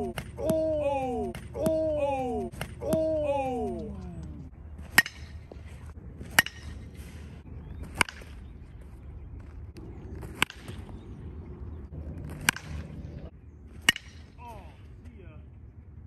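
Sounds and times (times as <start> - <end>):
baseball bat striking balls: 0.0 - 15.1.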